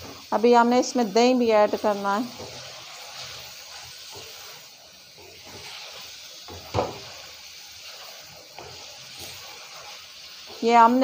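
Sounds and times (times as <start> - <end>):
food sizzling in a pan: 0.0 - 11.0
wooden spatula scraping a pan: 1.2 - 11.0.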